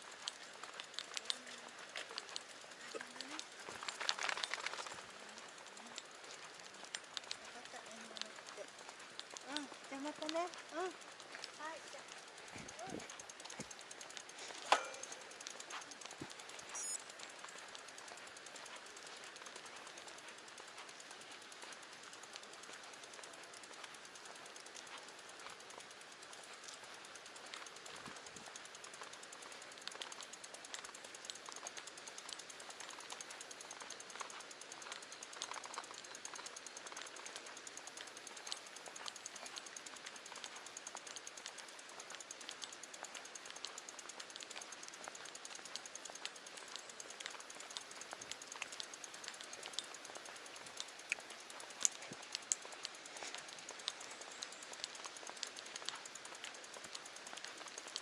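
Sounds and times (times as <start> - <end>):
bike ticks and clicks: 0.0 - 58.0
sharp snaps: 0.0 - 58.0.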